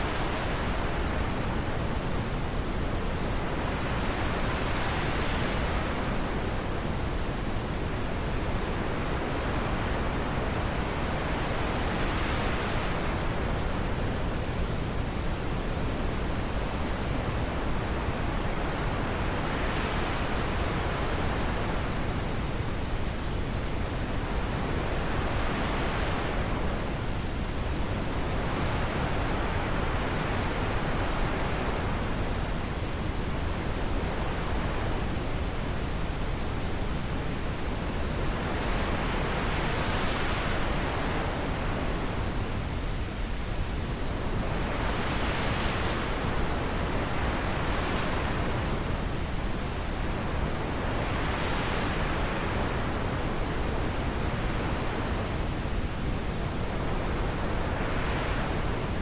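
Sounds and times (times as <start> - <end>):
wind blowing in gusts: 0.0 - 59.0.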